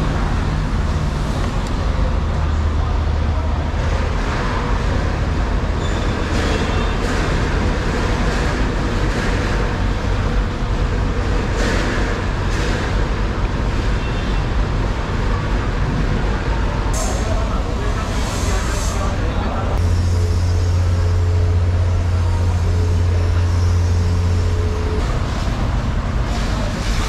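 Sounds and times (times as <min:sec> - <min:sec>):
street din with low rumble: 0:00.0 - 0:27.0.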